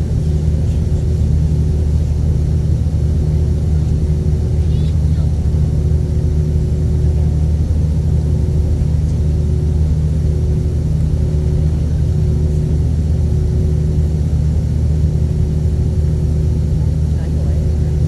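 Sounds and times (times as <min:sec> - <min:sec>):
faint pulsing hum: 0:00.0 - 0:18.0
jet engine cabin rumble: 0:00.0 - 0:18.0.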